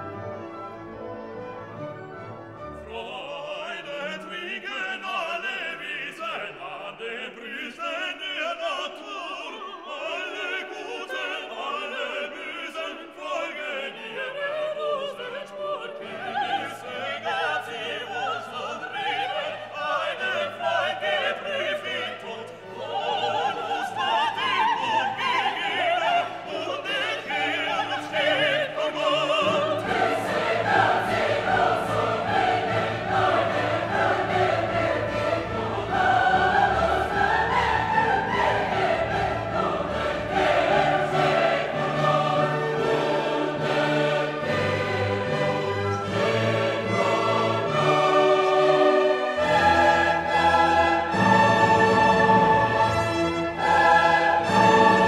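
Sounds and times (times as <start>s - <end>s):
classical orchestral music: 0.0s - 55.0s
operatic singing with vibrato: 2.6s - 55.0s.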